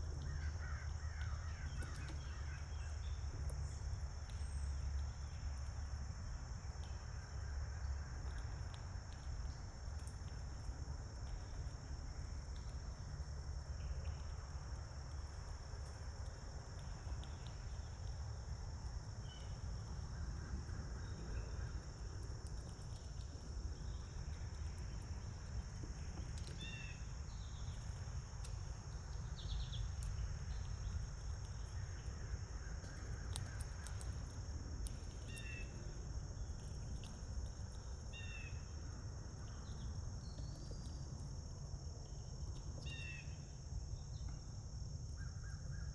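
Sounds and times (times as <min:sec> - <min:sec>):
crickets trilling: 0:00.0 - 0:45.9.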